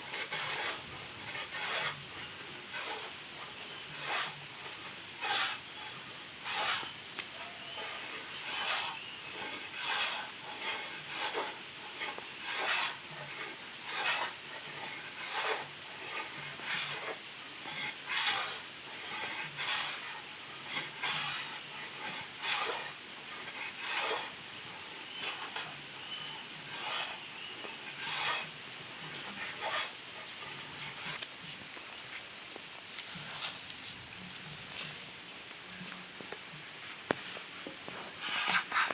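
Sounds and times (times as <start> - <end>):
hand plane shaving wood: 0.0 - 7.0, 7.6 - 31.2, 37.9 - 38.9.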